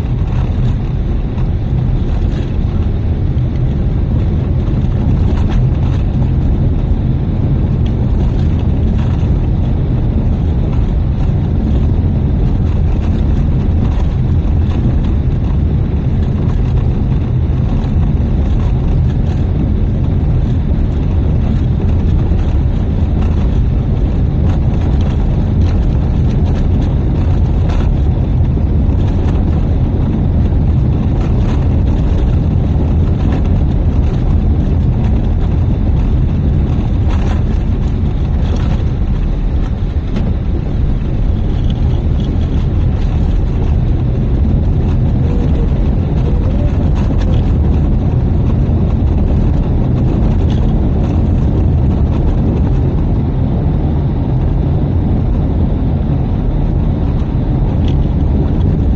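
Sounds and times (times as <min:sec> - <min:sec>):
low rumble of tyres and engine: 0:00.0 - 0:58.9.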